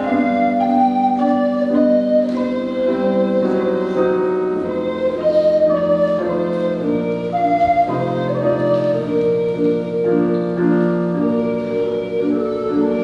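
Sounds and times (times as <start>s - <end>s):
recorder ensemble playing: 0.0s - 13.0s.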